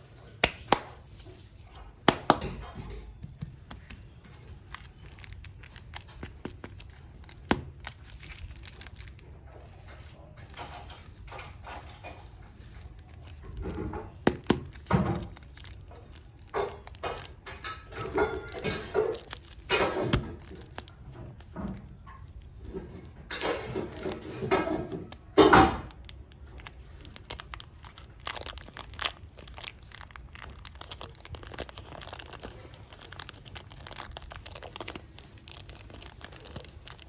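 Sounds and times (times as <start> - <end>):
plastic wrapping crinkling and tearing: 3.6 - 37.0.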